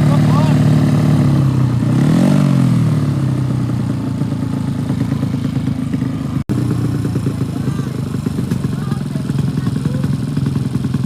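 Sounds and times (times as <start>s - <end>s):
motorcycle engines running loudly: 0.0s - 11.0s.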